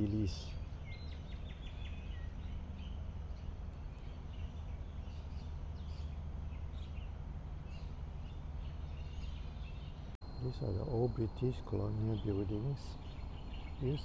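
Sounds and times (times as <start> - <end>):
birds chirping: 0.0 - 14.0
low background rumble: 0.0 - 14.0.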